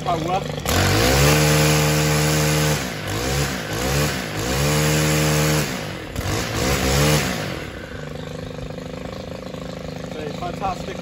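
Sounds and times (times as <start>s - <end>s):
brushcutter engine revving: 0.0s - 11.0s.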